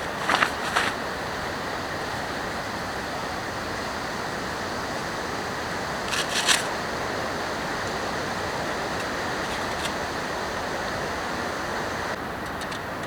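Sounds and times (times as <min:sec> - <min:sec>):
steady rain falling: 0:00.0 - 0:12.7.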